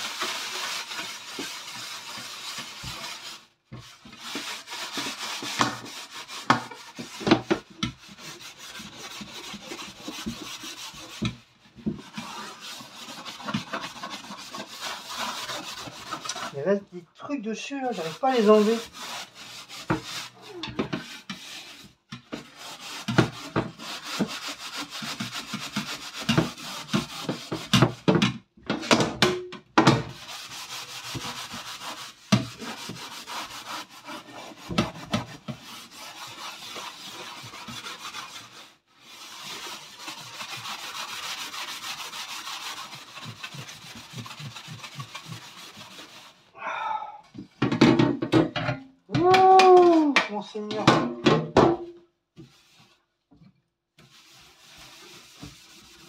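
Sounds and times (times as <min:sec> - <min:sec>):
steel wool scrubbing metal tray: 0:00.0 - 0:28.0, 0:30.0 - 0:46.5, 0:54.0 - 0:56.0.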